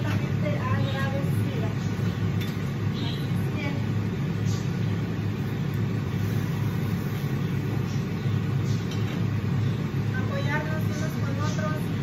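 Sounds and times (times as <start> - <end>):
range hood fan humming: 0.0 - 12.0.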